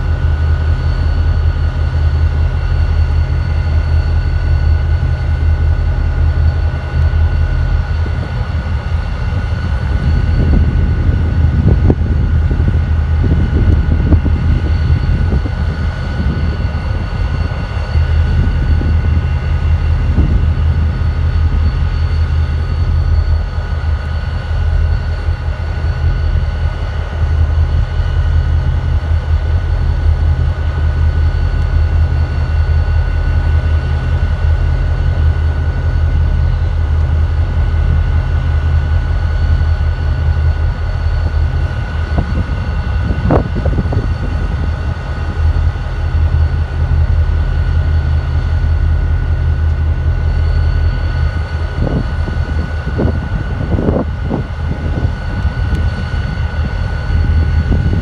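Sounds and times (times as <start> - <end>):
diesel locomotives idling: 0.0 - 58.0.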